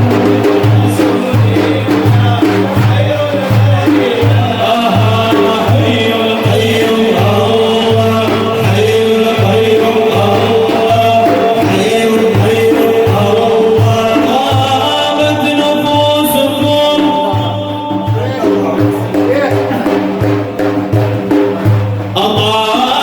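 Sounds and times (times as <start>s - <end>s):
group chanting: 0.0s - 23.0s
repeated drum beat: 0.0s - 23.0s.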